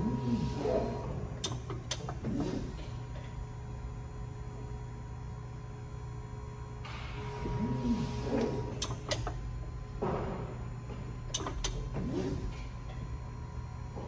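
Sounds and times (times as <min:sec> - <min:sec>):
steady hydraulic hum: 0:00.0 - 0:14.0.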